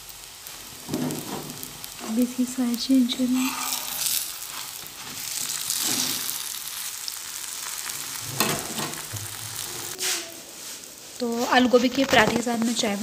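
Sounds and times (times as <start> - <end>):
oil sizzling on a griddle: 0.0 - 13.0.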